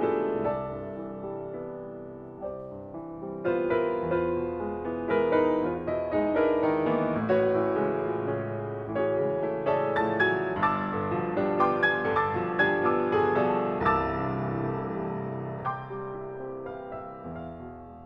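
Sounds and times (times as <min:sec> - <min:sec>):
solo grand piano playing: 0:00.0 - 0:18.0.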